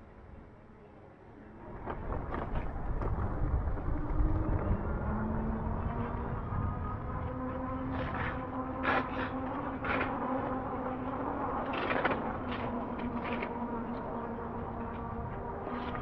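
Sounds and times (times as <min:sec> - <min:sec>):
tyre and wind noise: 0:01.6 - 0:16.0.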